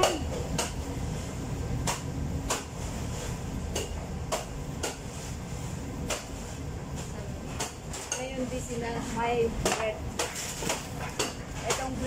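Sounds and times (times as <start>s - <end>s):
low hum of machinery: 0.0s - 12.0s.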